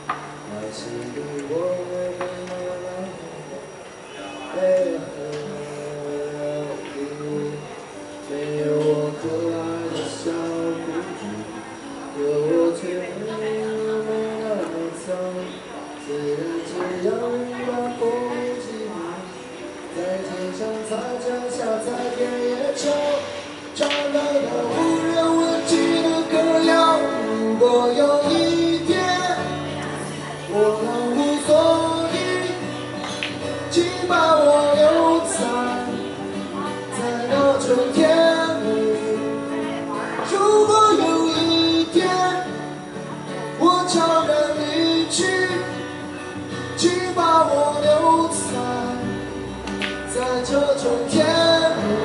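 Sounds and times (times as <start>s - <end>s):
song with sung melody: 0.0s - 52.0s.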